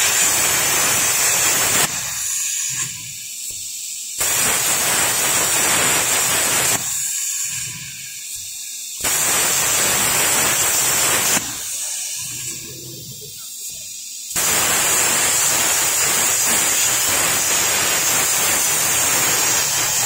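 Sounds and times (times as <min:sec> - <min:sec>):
plasma cutter harsh hiss: 0:00.0 - 0:20.0.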